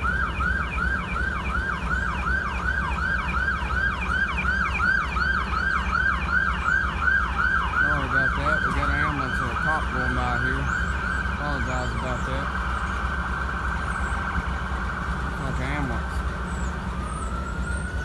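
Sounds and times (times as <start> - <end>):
siren yelping: 0.0 - 18.0.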